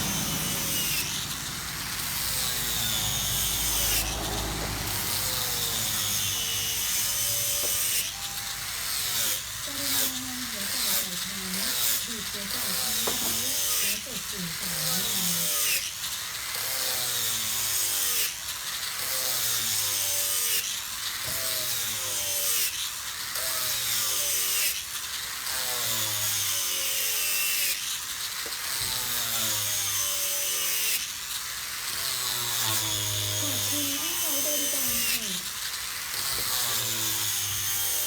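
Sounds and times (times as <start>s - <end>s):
power tool cutting wood: 0.0s - 38.0s.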